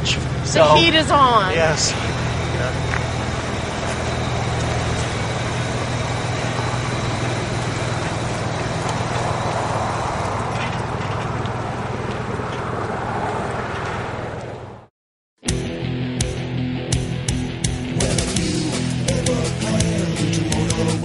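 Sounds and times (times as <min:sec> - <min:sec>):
motorhome engine running: 0:00.0 - 0:14.9, 0:15.8 - 0:21.0.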